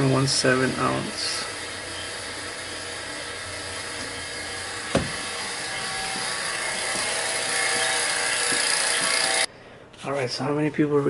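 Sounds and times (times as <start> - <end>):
vacuum pump hissing drone: 0.0 - 9.5.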